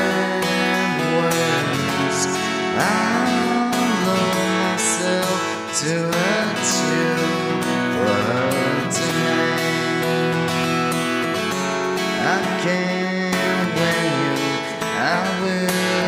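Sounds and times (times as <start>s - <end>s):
sliding guitar melody: 0.0s - 16.0s
strummed acoustic guitar chords: 0.0s - 16.0s.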